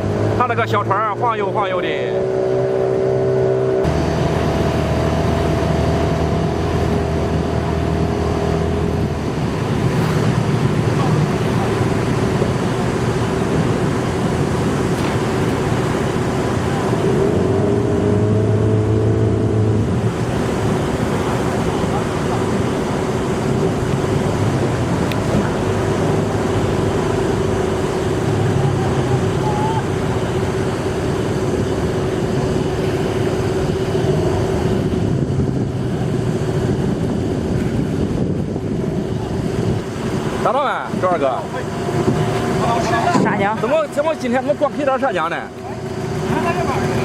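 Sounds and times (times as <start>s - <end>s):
boat motor running: 0.0s - 47.0s
water wash: 0.0s - 47.0s
wind: 0.0s - 47.0s.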